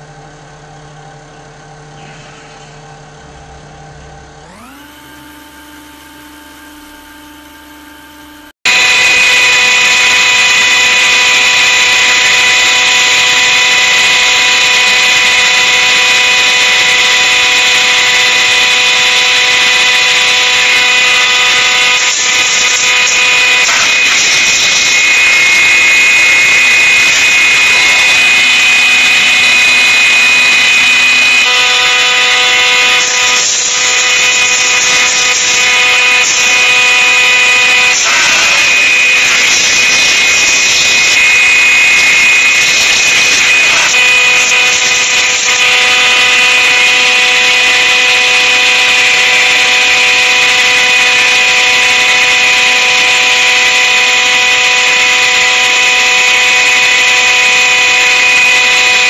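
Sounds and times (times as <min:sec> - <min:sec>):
high-pitched machine whine: 0:00.0 - 0:59.0
hydraulic press humming: 0:00.0 - 0:59.0.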